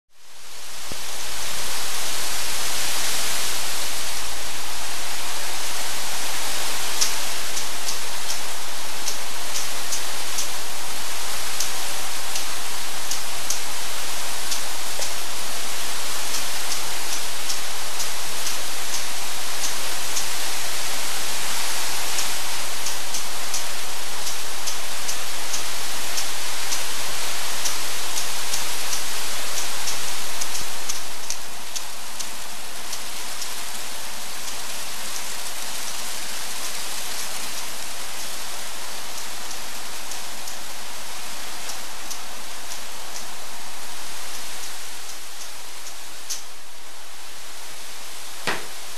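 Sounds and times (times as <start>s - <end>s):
fans blowing airy hiss: 0.2s - 48.9s.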